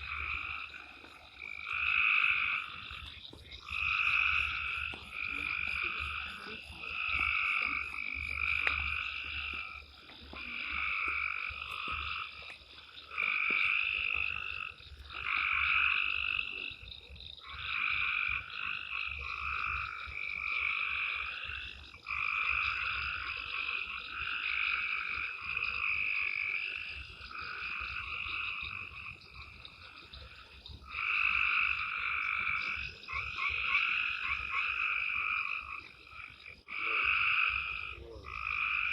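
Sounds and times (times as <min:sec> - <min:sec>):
frogs croaking in chorus: 0:00.0 - 0:38.9.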